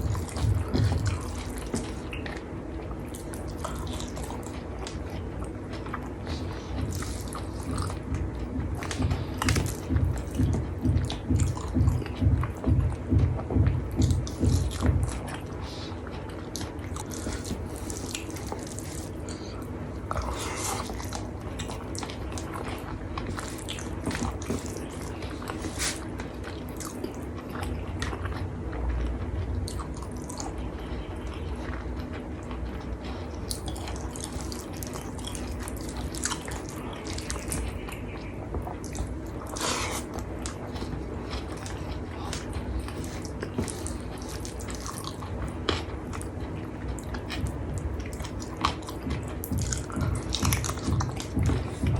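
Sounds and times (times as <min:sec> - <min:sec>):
person chewing: 0:00.0 - 0:51.9
steady low hum: 0:00.0 - 0:51.9.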